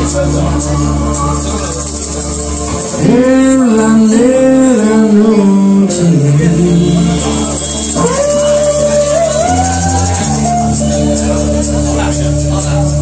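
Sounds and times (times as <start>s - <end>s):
bass guitar: 0.0s - 13.0s
drums: 0.0s - 13.0s
electric guitars: 0.0s - 13.0s
person singing: 0.0s - 13.0s.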